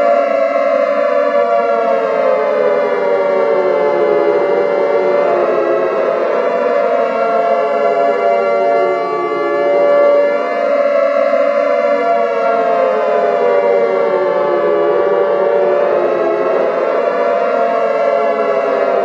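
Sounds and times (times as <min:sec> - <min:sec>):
emergency sirens wailing: 0:00.0 - 0:19.0.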